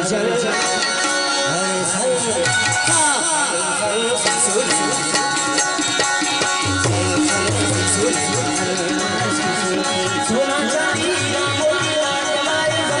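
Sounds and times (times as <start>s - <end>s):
folk song with drums: 0.0s - 13.0s.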